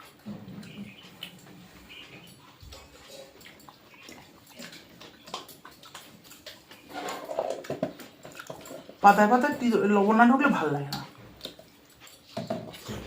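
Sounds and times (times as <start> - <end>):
mouth smacking while chewing: 0.0 - 9.7, 10.5 - 13.0.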